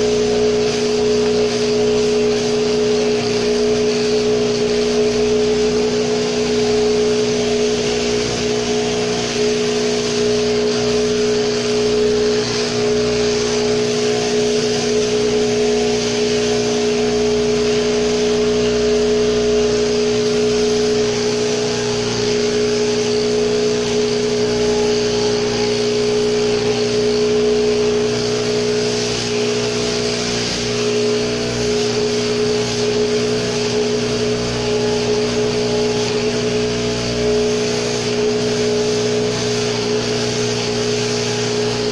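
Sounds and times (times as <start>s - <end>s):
shearing handpiece mechanical whine: 0.0s - 41.9s.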